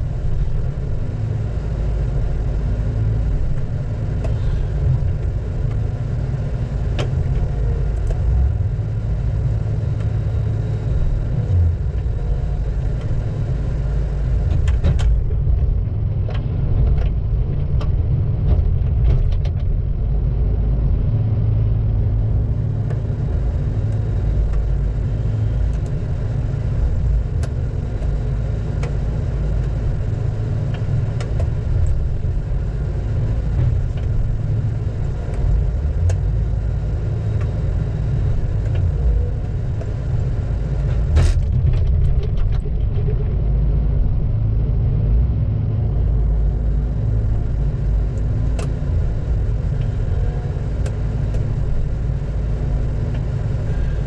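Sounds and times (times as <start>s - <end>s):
diesel engine low rumble: 0.0s - 54.0s.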